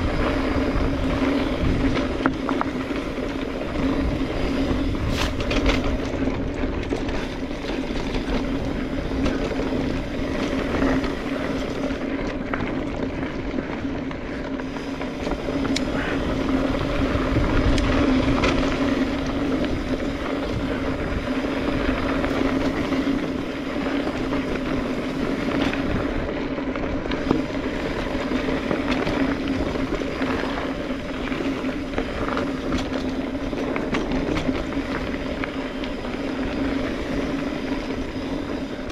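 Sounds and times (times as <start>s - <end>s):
bike clicks and rattles: 0.0s - 38.9s
bike tyre rumble on dirt: 0.0s - 38.9s
freehub buzzing hum: 0.0s - 38.9s
wind on camera: 0.0s - 38.9s.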